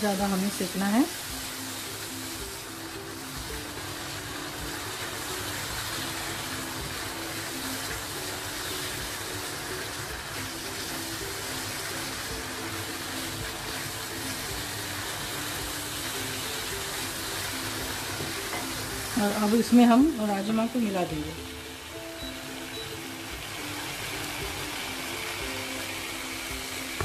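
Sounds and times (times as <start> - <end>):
masala sizzling in a pan: 0.0 - 27.0.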